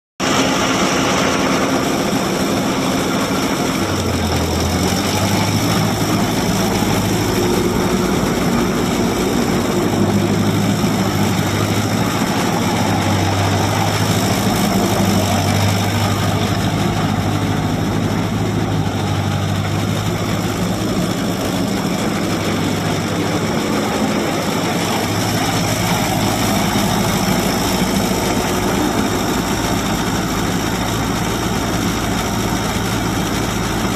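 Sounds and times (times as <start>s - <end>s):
tractor engine running: 0.2s - 33.9s.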